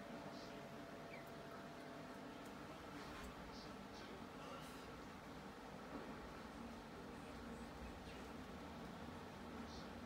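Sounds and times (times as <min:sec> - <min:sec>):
room hum and hiss: 0:00.0 - 0:10.0.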